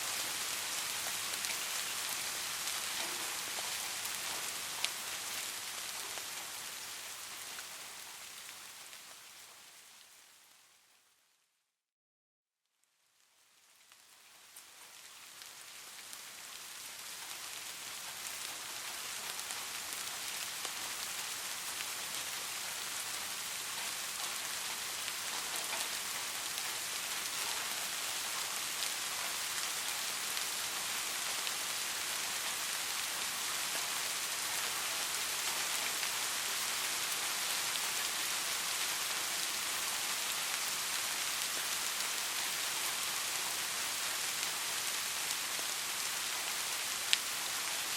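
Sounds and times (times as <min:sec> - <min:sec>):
steady rain falling: 0:00.0 - 0:11.4, 0:12.8 - 0:47.9.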